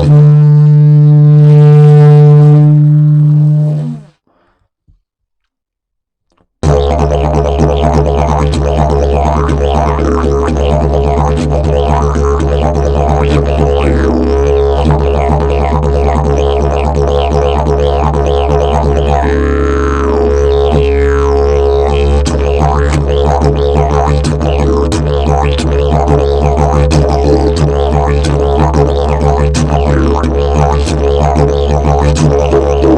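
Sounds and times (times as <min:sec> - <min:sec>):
didgeridoo drone: 0:00.0 - 0:04.1, 0:06.6 - 0:32.9.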